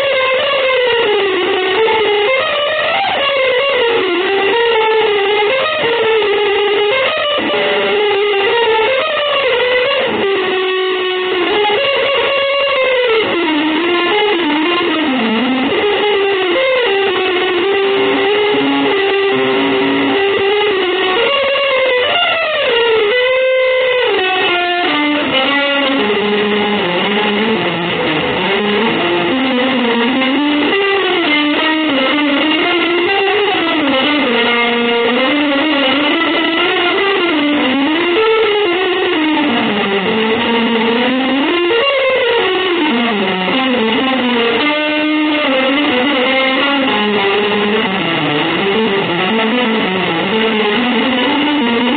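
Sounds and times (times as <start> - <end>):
electric guitar melody with bends: 0.0 - 51.9.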